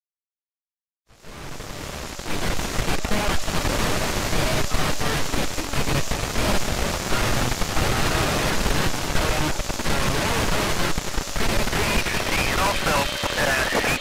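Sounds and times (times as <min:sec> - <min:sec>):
radio static hiss: 0:01.1 - 0:14.0.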